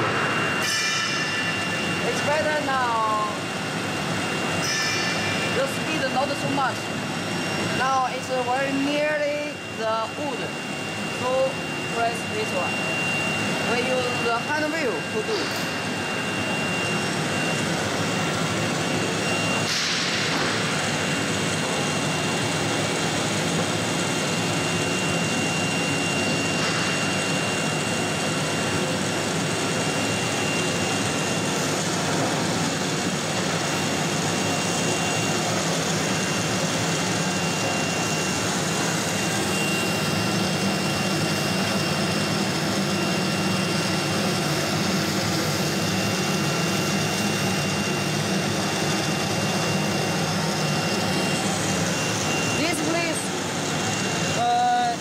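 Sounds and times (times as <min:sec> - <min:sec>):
vacuum pump and machinery drone: 0:00.0 - 0:55.0.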